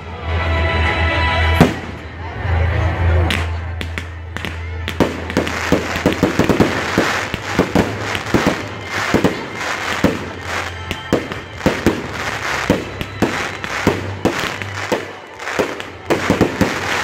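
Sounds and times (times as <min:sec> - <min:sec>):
crackling of firework stars: 0:03.2 - 0:17.0.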